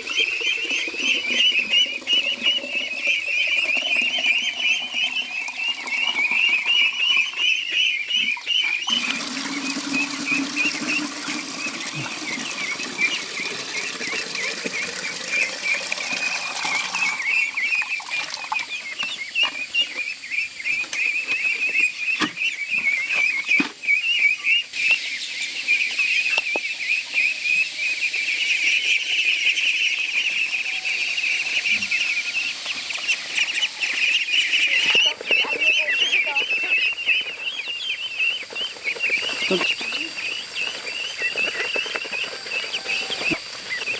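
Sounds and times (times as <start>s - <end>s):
ducklings and chicks peeping: 0.0s - 43.9s.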